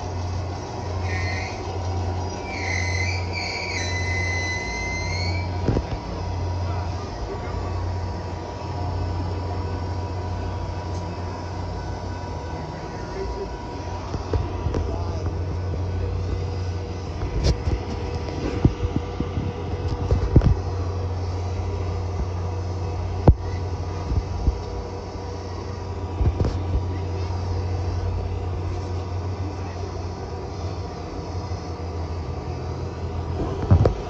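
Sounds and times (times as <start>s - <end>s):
train boxcars rumbling past: 0.0s - 34.0s.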